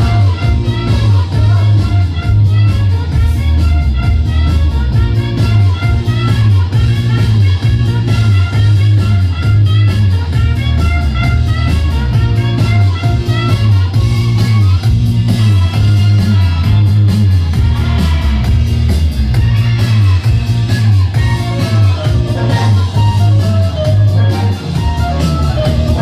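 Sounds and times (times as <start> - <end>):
loud party music with heavy bass: 0.0 - 26.0.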